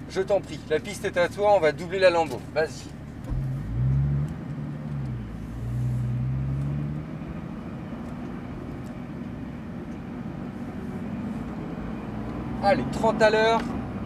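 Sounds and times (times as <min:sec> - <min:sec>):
car engine heard from cabin: 0:00.0 - 0:14.0.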